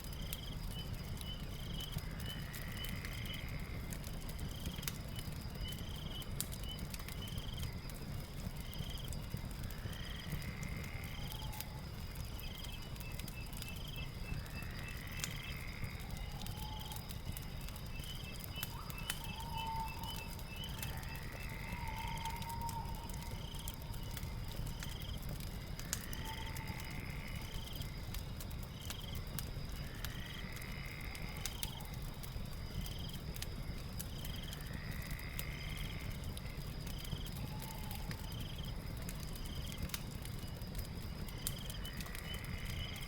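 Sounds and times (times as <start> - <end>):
fire crackling and popping: 0.0 - 43.0
insects chirping: 0.0 - 43.0.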